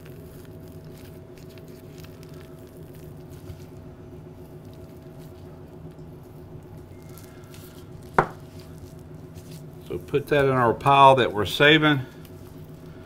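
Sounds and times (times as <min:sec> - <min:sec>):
gloved hands handling meat: 0:00.0 - 0:13.0
steady low hum: 0:00.0 - 0:13.0.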